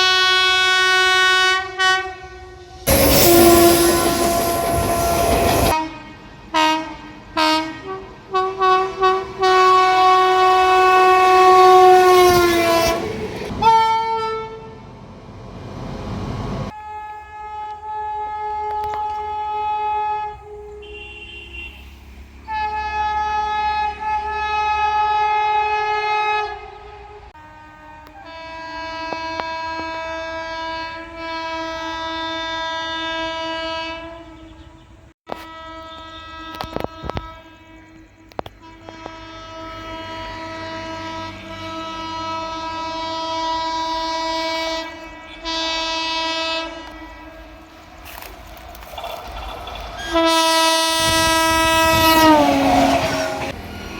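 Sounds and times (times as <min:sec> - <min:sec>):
locomotive horn blasts: 0:00.0 - 0:14.9, 0:16.7 - 0:48.4, 0:49.9 - 0:53.7.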